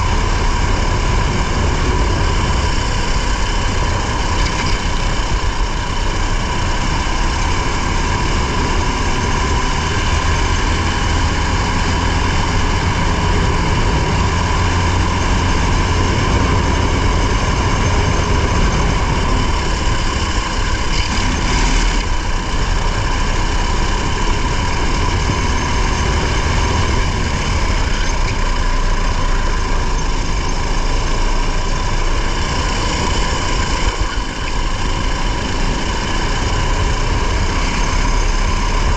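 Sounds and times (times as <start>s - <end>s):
racing car engine: 0.0s - 38.9s
road and wind noise: 0.0s - 38.9s.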